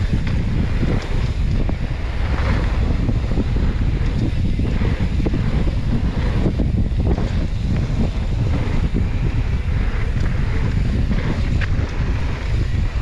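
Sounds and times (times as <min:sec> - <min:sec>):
bike tyre rumble: 0:00.0 - 0:13.0
wind buffeting microphone: 0:00.0 - 0:13.0.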